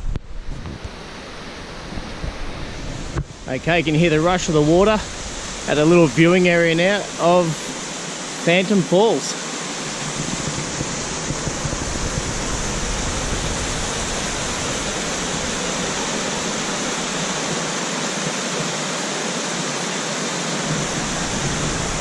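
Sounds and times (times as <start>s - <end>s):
waterfall rushing: 0.8s - 22.0s.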